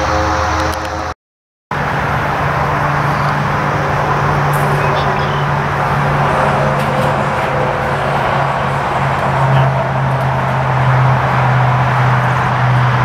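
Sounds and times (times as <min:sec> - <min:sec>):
model airplane engines droning: 0:00.0 - 0:13.0.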